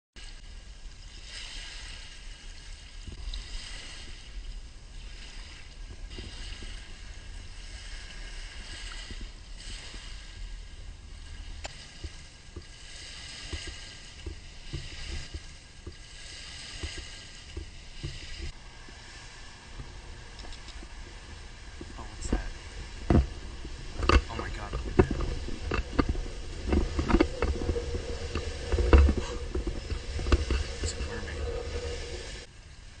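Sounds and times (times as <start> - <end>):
waves washing on sandy shore: 0.2 - 33.0
wind rumbling on microphone: 0.2 - 33.0.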